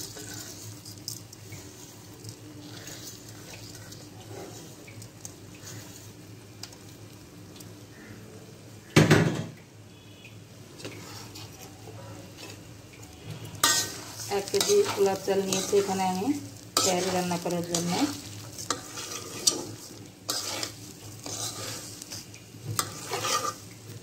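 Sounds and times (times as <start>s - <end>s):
rice crackling in oil: 0.0s - 9.0s, 9.6s - 24.0s.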